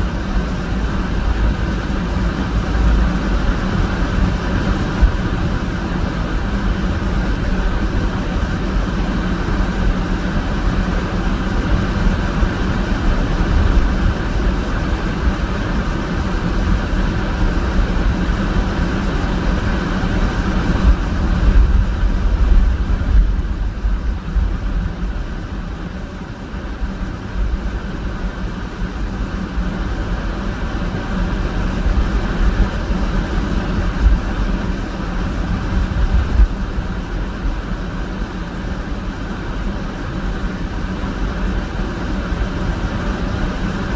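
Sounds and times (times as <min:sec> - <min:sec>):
car engine and tyre noise: 0:00.0 - 0:43.9.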